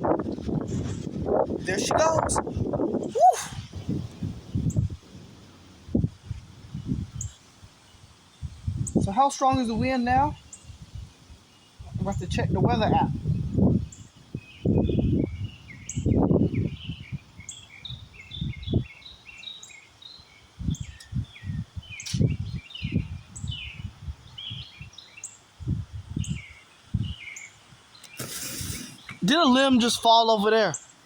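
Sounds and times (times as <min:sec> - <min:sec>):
wind buffeting microphone: 0:00.0 - 0:19.3, 0:20.3 - 0:25.0, 0:25.6 - 0:30.2
small birds chirping: 0:00.2 - 0:31.0.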